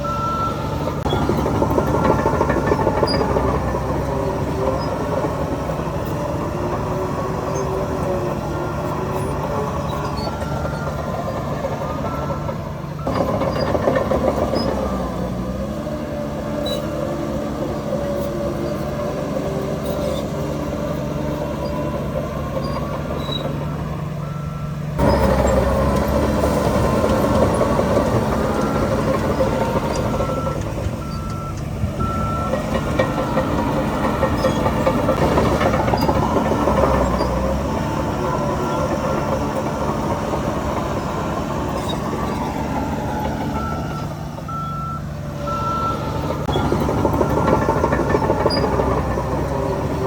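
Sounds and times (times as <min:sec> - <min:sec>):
reversing alarm beeping: 0:00.0 - 0:06.2, 0:06.9 - 0:15.2, 0:20.9 - 0:50.0
heavy machinery diesel engines: 0:00.0 - 0:50.0.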